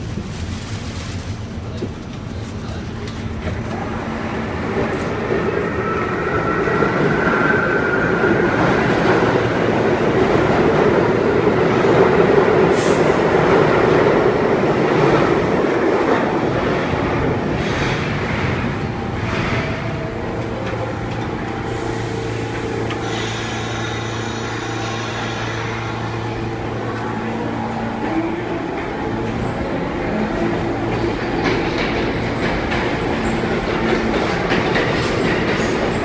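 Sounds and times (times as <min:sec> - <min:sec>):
subway train rumbling on track: 0:00.0 - 0:36.0.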